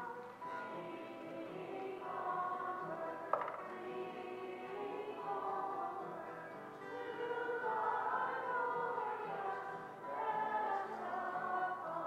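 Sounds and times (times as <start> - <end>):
children singing a hymn: 0.0 - 12.0.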